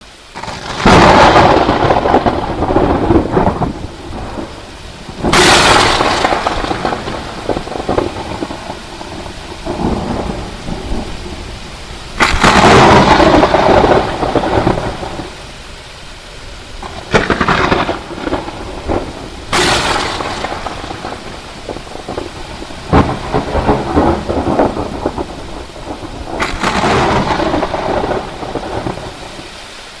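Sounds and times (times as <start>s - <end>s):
steady rain: 0.0s - 30.0s
thunderclaps with rolling rumble: 0.3s - 29.6s.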